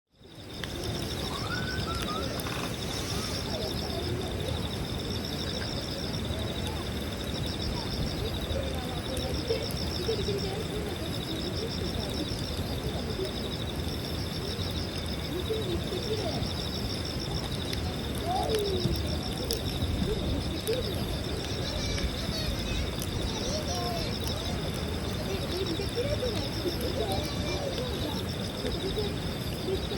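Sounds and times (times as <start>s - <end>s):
outdoor noise rush: 0.1s - 29.9s
insects trilling: 0.2s - 29.9s.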